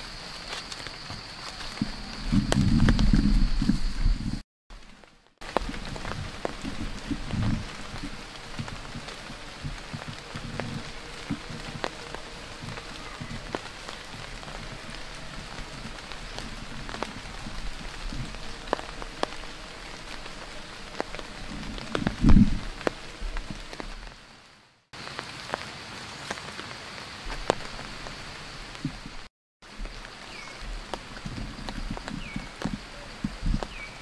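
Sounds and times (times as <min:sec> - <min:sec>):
raindrops ticking: 0:00.0 - 0:24.3, 0:25.0 - 0:34.0
steady rain falling: 0:00.0 - 0:34.0.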